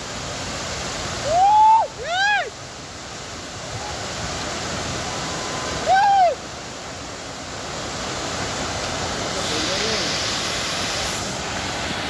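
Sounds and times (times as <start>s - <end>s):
water rushing down a spillway: 0.0s - 12.0s.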